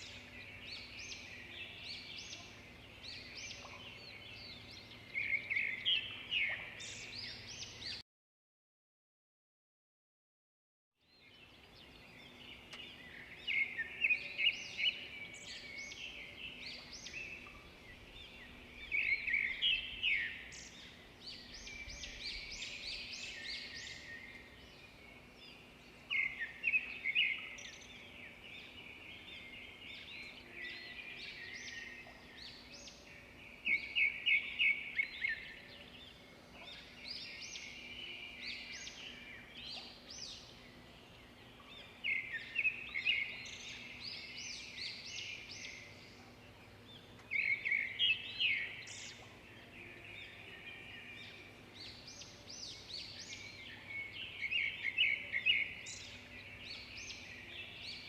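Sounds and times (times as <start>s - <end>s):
songbirds chirping and singing: 0.0s - 8.0s, 11.0s - 58.0s.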